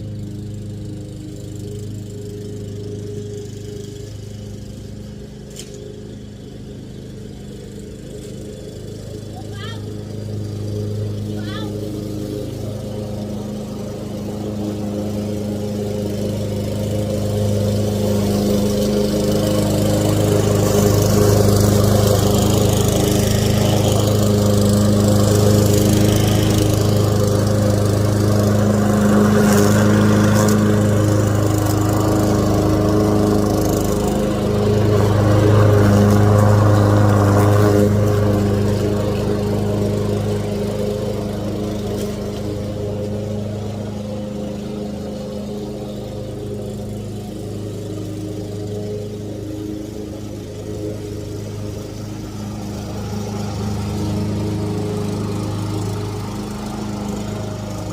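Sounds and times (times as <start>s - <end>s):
lawn mower engine running: 0.0s - 57.9s.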